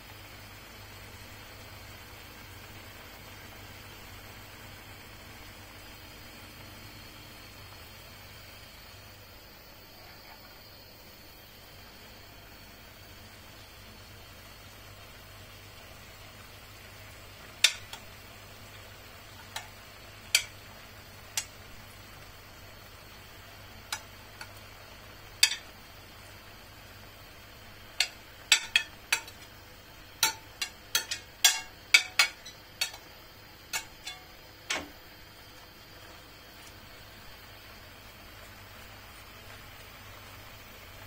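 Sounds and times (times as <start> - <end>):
faint steady hiss: 0.0 - 41.0.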